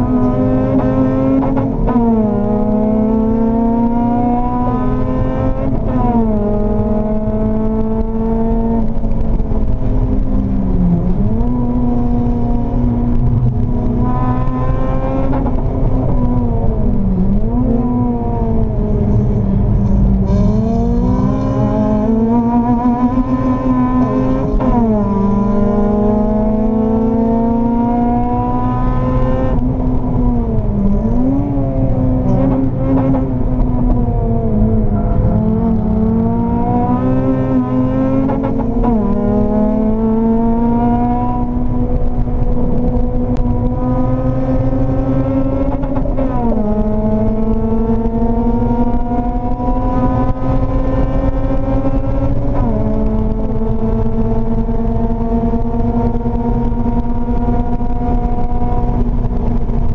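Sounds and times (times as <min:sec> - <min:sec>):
car engine revving hard: 0:00.0 - 0:59.9.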